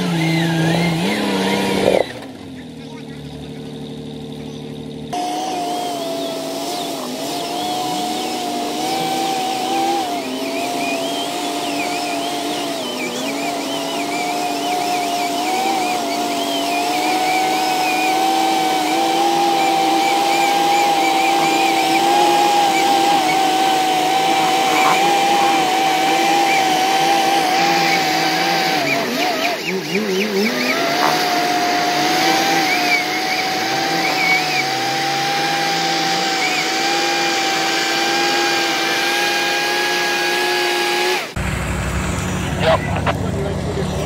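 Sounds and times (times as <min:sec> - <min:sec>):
winch motor whining: 0:00.0 - 0:44.0.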